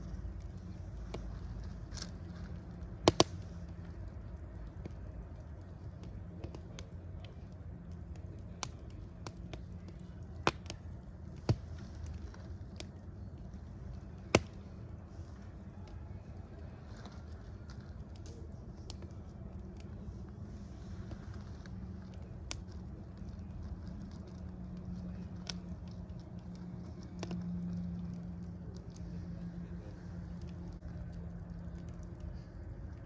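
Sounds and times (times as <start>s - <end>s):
fire crackling and popping: 0.0s - 33.0s
fire rumbling: 0.0s - 33.0s.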